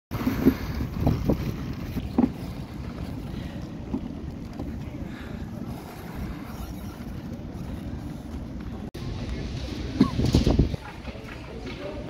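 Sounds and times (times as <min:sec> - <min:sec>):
wind buffeting microphone: 0:00.2 - 0:11.4.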